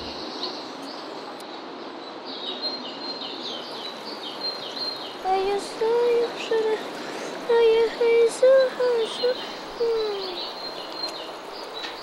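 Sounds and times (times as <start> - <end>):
background hiss: 0.0 - 12.0
birds chirping: 0.0 - 12.0.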